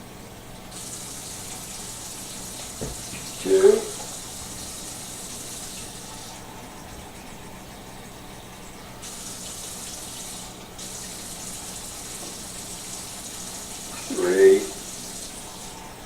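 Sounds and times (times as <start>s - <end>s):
tap water filling a cup: 0.6s - 16.0s.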